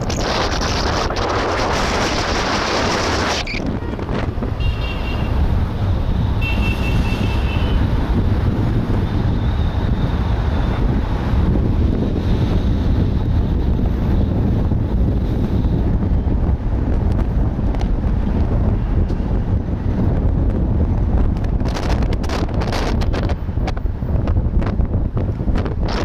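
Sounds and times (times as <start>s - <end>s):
car road rumble: 0.0s - 26.0s
wind buffeting microphone: 0.0s - 26.0s.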